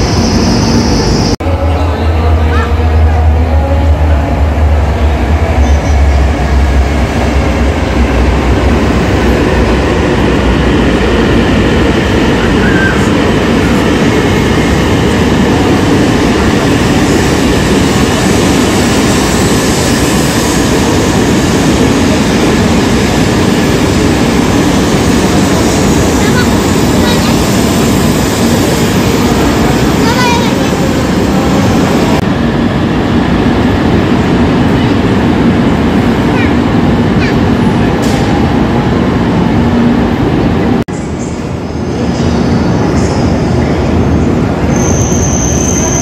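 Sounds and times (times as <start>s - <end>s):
train pulling into station: 0.0s - 46.0s.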